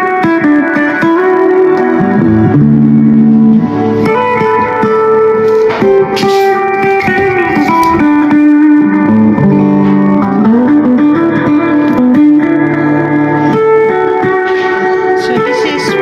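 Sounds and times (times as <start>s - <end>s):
electric guitar bluesy line: 0.0s - 16.0s.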